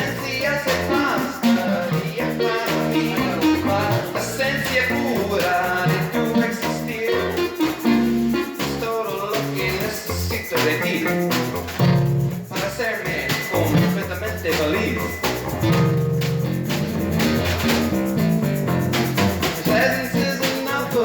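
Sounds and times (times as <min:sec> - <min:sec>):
bass line: 0:00.0 - 0:21.0
live band playing: 0:00.0 - 0:21.0
plucked guitar: 0:00.0 - 0:21.0
steady drum beat: 0:00.0 - 0:21.0.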